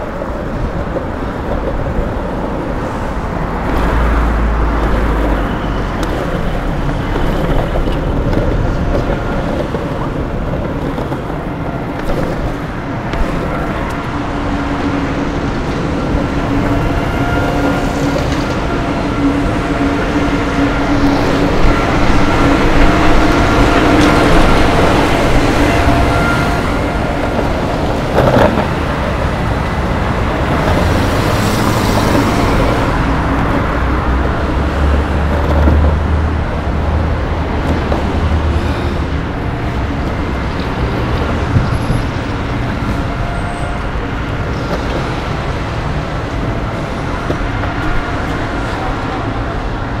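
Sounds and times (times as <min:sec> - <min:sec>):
longboard wheels rolling on tarmac: 0:00.0 - 0:50.0
road traffic passing: 0:00.0 - 0:50.0.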